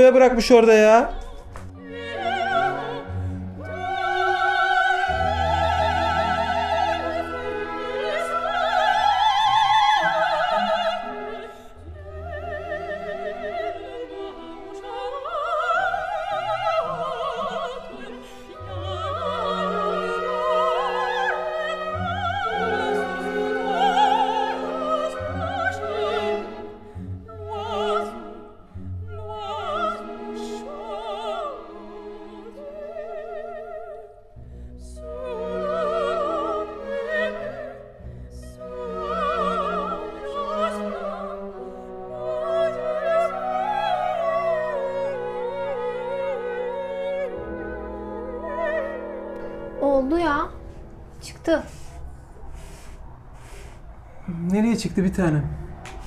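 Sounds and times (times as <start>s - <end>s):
operatic singing with orchestra: 0.0s - 49.8s.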